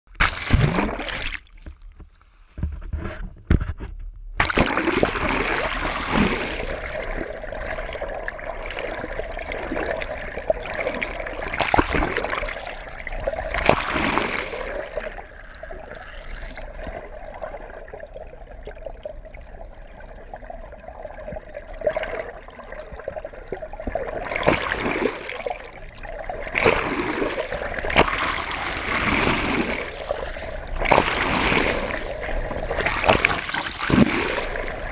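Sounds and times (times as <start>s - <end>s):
water rushing underwater: 0.1s - 1.7s, 4.4s - 34.9s
bubbly splashes: 0.1s - 1.8s, 4.4s - 34.9s.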